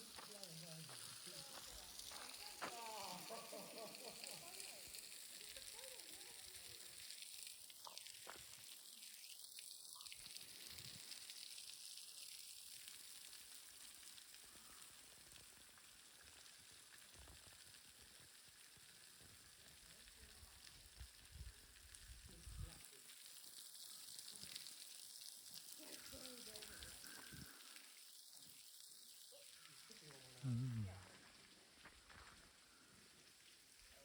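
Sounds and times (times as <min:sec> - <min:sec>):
faint steady hiss: 0:00.0 - 0:34.0.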